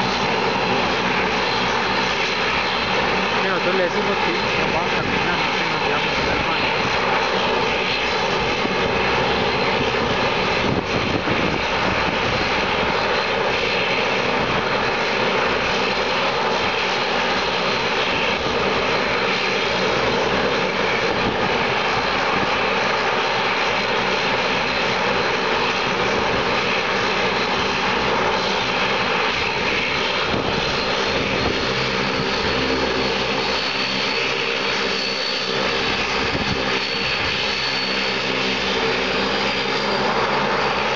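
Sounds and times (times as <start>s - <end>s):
turboprop engines running: 0.0s - 40.9s.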